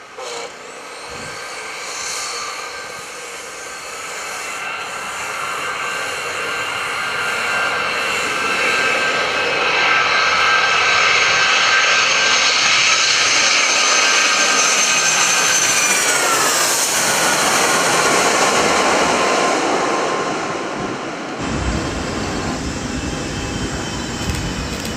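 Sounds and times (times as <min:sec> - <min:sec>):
jet passing by: 0:00.0 - 0:24.9.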